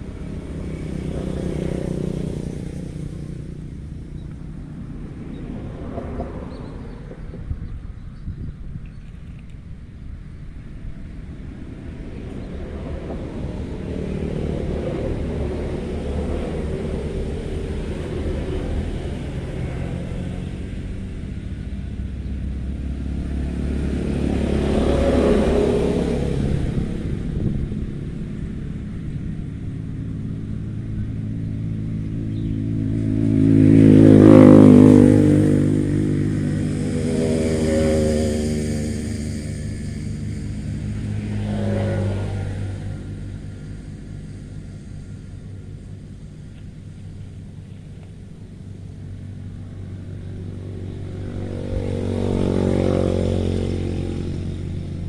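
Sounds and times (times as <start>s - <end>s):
vehicle engine passing: 0.0s - 55.0s
vehicles passing rumble: 0.0s - 55.0s.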